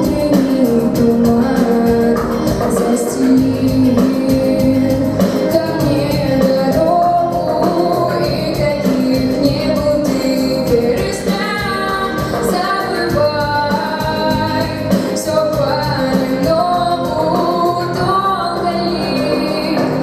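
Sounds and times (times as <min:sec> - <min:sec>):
instrumental accompaniment: 0:00.0 - 0:20.0
woman singing: 0:00.0 - 0:20.0.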